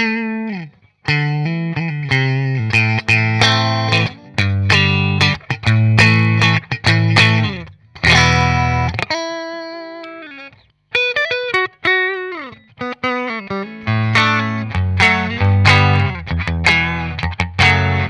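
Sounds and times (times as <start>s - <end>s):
electric guitar strummed chords: 0.0s - 10.2s, 11.0s - 18.0s
electric guitar melody with bends: 0.0s - 18.0s.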